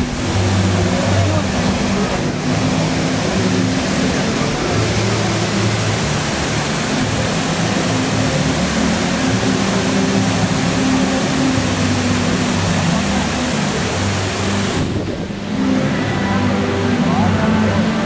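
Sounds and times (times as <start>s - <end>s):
fountain water rushing: 0.0s - 18.0s.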